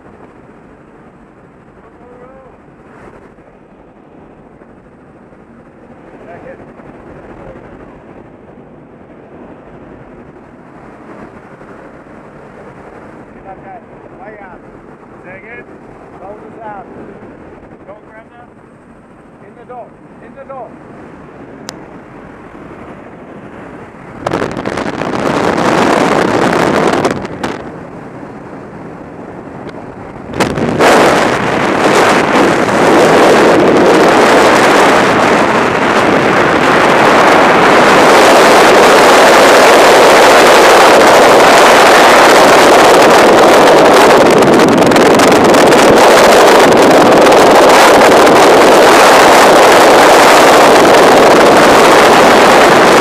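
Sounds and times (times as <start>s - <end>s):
wind blasting over microphone: 0.0s - 53.0s.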